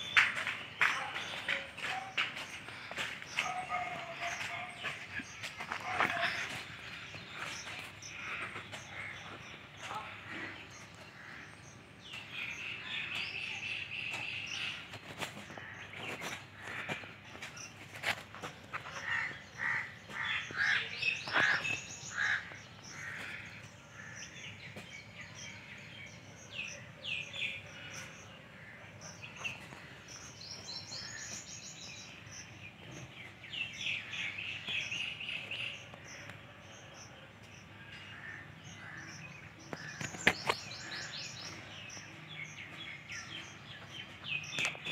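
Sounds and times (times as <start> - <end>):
low outdoor background: 0.0 - 44.9
songbirds chirping: 0.0 - 44.9.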